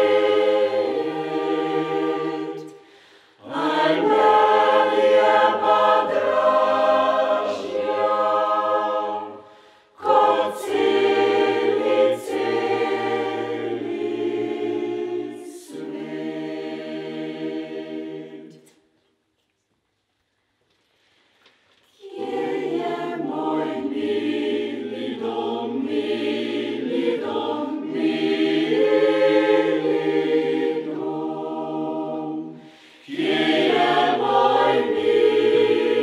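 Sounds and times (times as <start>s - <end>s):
mixed choir singing a cappella: 0.0s - 18.8s, 22.0s - 36.0s.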